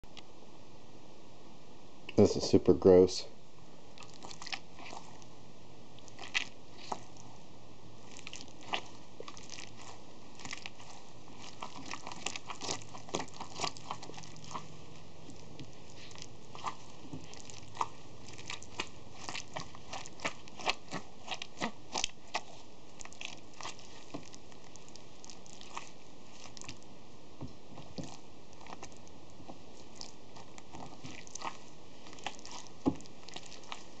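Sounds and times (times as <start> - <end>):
slime squelching: 3.9 - 34.0.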